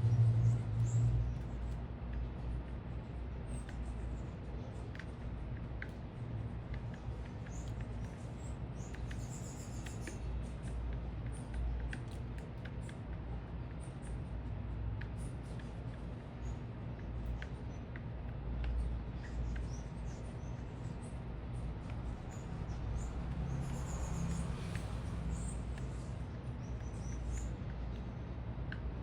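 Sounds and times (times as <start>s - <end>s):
city background rumble: 0.0s - 29.0s
small birds chirping: 0.0s - 29.0s
light ticks and taps: 0.7s - 29.0s.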